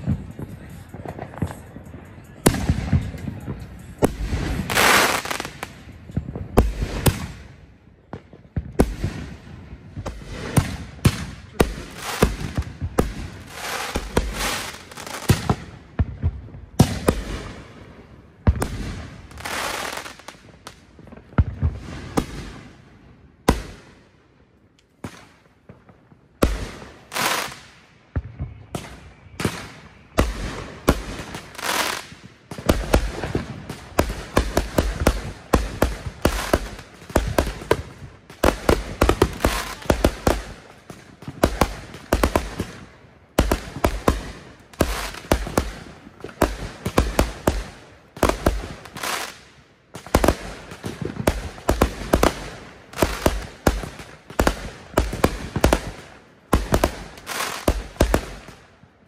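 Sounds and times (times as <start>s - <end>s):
fireworks banging: 0.0s - 17.8s, 25.0s - 58.6s.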